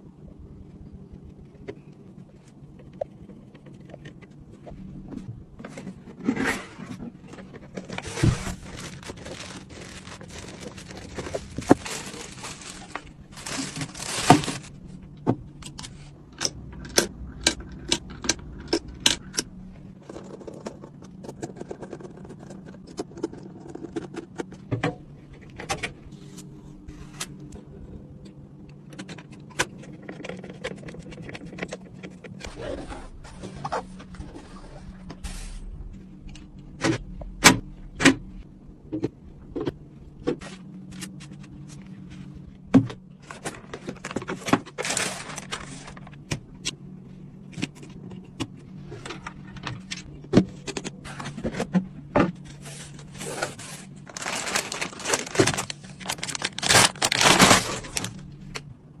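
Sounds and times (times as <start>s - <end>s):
low steady hum: 0.0s - 59.0s
rustling and scraping: 1.4s - 27.6s, 29.0s - 58.7s.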